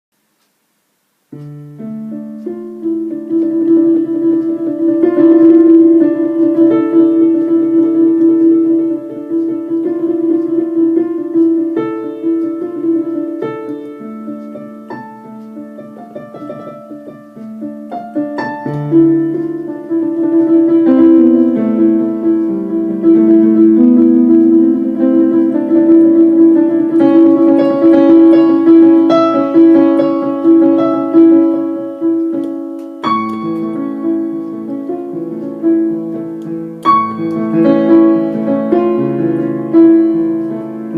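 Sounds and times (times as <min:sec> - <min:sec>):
solo piano playing: 0:00.2 - 0:40.9.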